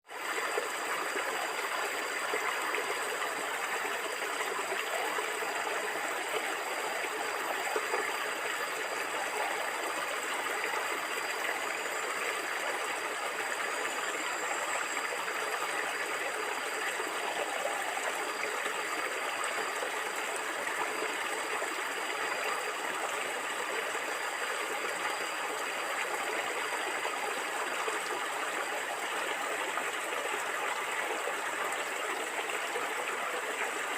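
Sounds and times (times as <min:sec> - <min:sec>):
stream water flowing: 0:00.1 - 0:33.9.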